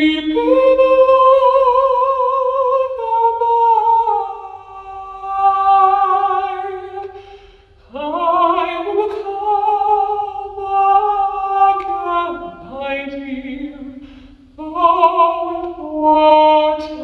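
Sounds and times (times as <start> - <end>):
filtered voice singing unaccompanied: 0.0 - 7.2, 7.8 - 17.0.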